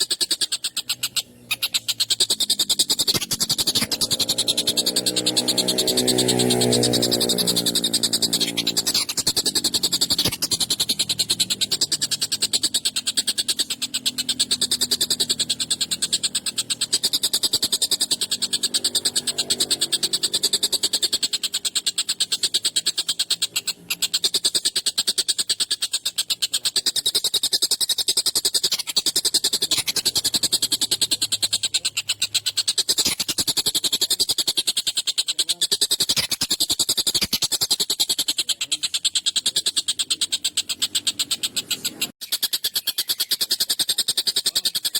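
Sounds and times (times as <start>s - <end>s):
kingfisher chattering call: 0.0s - 44.9s.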